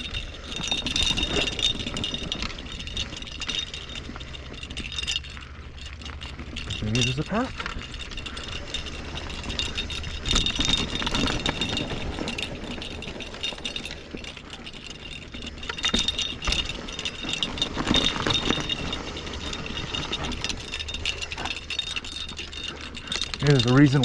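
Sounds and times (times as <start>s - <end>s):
mountain bike rattling over rocks: 0.0s - 24.0s.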